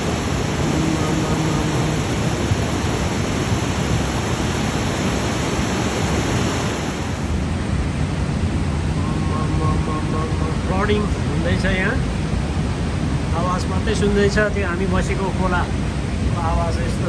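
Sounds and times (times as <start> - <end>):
floodwater roaring: 0.0 - 16.4.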